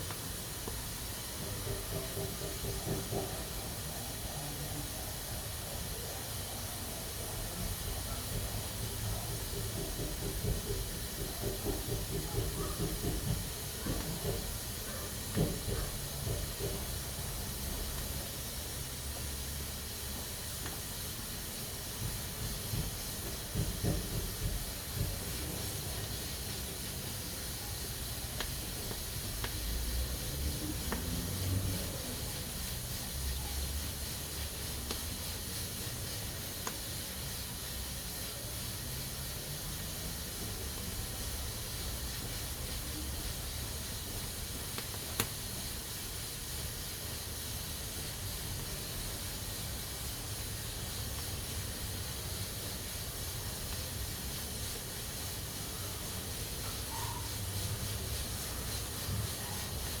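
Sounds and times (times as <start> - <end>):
pressure cooker hissing: 0.0 - 60.0.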